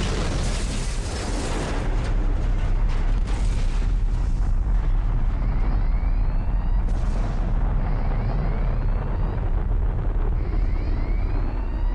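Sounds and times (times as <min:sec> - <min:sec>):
deep rumble: 0:00.0 - 0:11.9.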